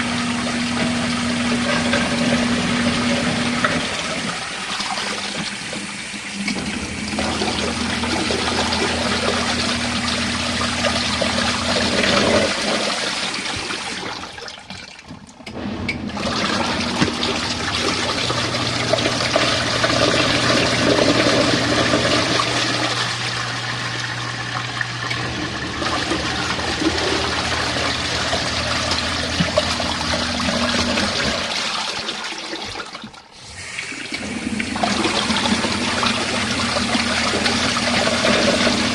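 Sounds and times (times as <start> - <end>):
washing machine churning water: 0.0 - 38.9.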